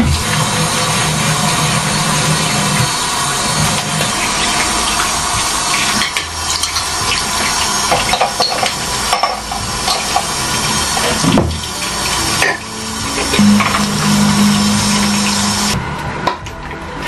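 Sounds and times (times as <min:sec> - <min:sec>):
water running from tap into basin: 0:00.0 - 0:15.8.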